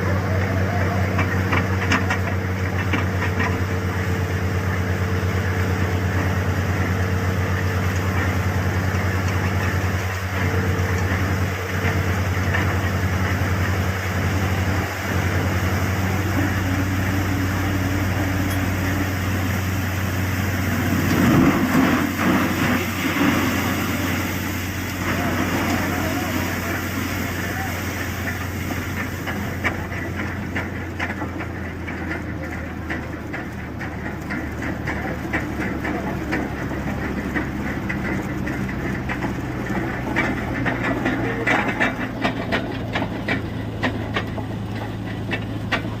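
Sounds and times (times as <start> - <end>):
drilling rig engine humming: 0.0 - 46.0
loud rough noise: 0.0 - 46.0.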